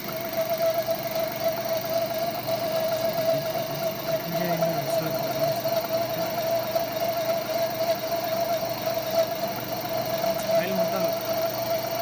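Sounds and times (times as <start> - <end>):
metal lathe whining: 0.0 - 12.0.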